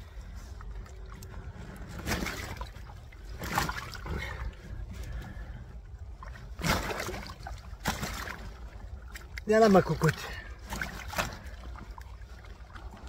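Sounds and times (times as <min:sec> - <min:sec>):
water splashing: 0:00.1 - 0:13.0.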